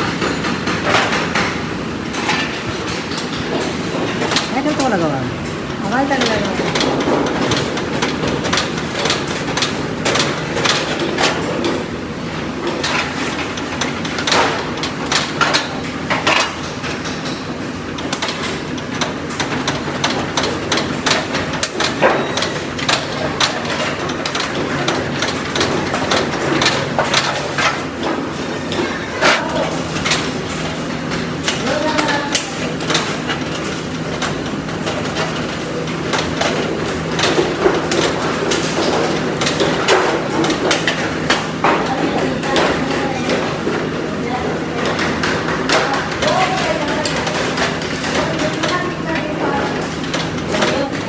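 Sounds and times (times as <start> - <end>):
knocks and clanks of parts: 0.0 - 51.0
steady machine hum: 0.0 - 51.0.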